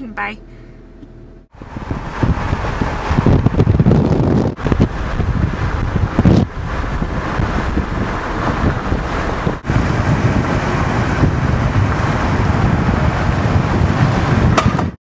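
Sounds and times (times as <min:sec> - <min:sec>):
car road noise rumble: 0:00.0 - 0:15.0
wind buffeting microphone: 0:01.5 - 0:15.0.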